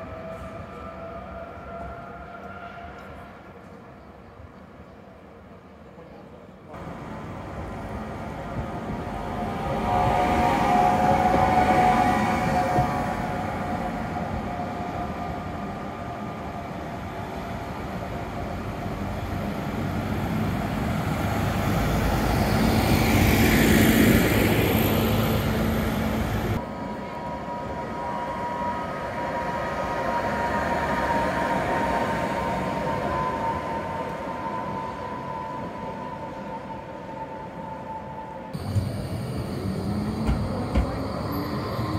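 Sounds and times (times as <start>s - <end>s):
tram noise: 0.0s - 41.9s
tram passing with motor whine: 6.7s - 41.9s
standing tram whine: 6.8s - 41.9s.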